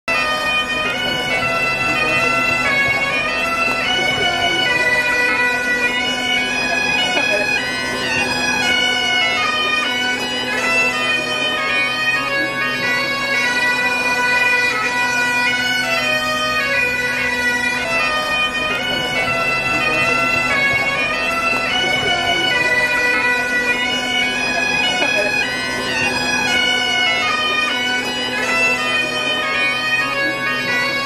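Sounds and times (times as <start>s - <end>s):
bagpipes playing a march: 0.1s - 31.0s.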